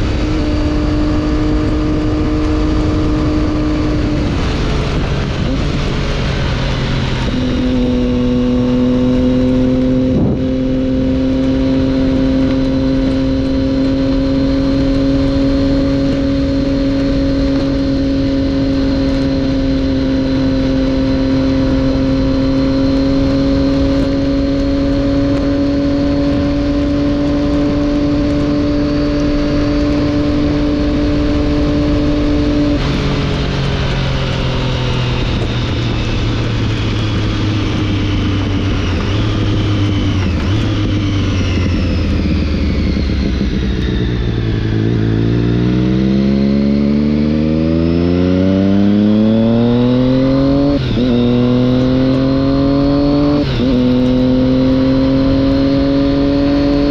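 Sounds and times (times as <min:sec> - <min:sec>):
motorcycle engine: 0:00.0 - 0:56.9
wind rush: 0:00.0 - 0:56.9.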